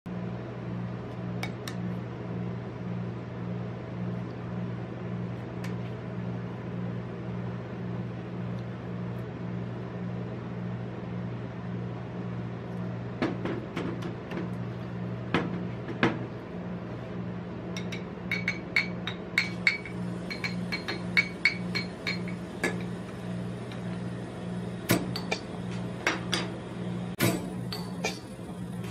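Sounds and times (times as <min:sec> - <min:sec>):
refrigeration unit humming: 0:00.1 - 0:28.9.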